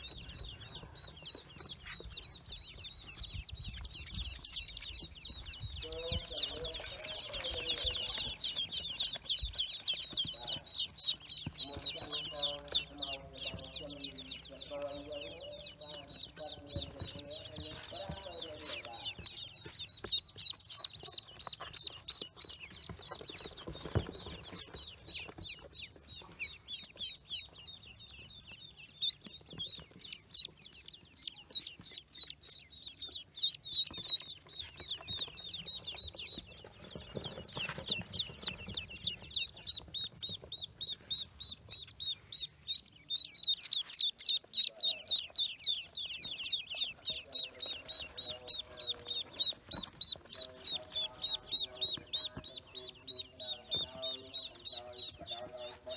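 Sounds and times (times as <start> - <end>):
ducklings peeping: 0.0 - 55.9.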